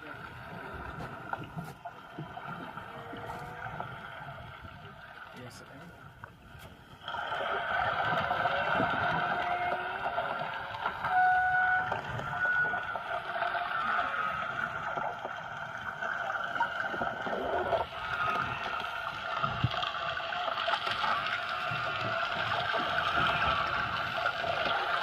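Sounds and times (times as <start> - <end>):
boat engine drone underwater: 0.0 - 25.0.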